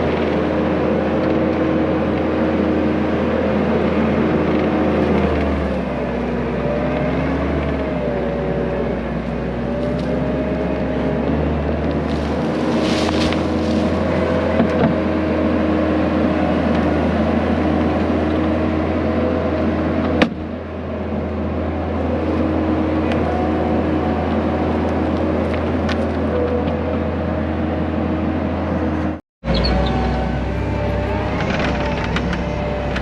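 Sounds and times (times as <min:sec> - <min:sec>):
skid steer engine under load: 0:00.0 - 0:33.0.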